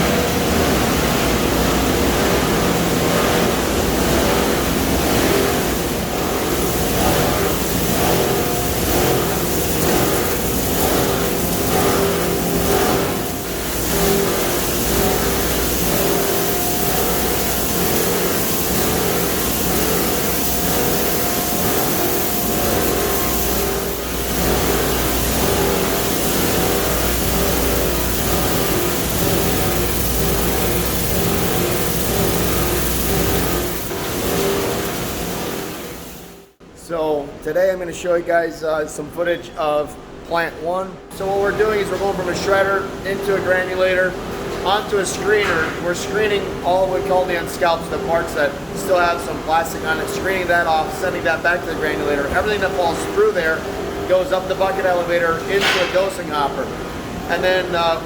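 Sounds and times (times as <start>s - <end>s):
machinery humming and rattling: 0.0s - 37.3s, 37.9s - 58.0s.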